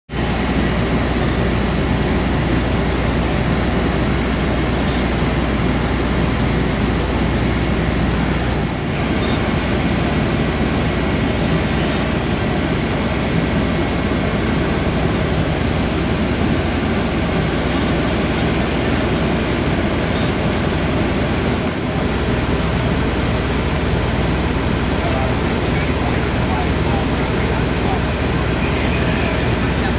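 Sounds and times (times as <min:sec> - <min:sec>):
machinery rushing noise: 0:00.1 - 0:29.9.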